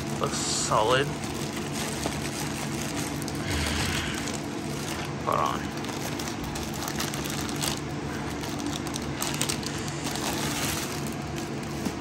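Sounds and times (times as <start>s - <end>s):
plastic bags crinkling: 0.0s - 12.0s
steady low hum: 0.0s - 12.0s.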